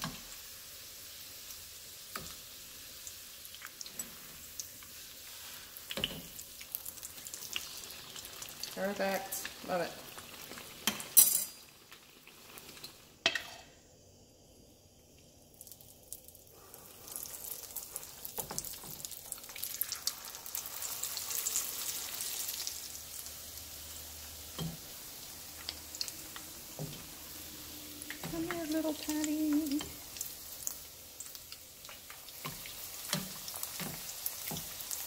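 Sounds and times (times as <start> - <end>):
oil sizzling in frying pan: 0.0 - 35.0.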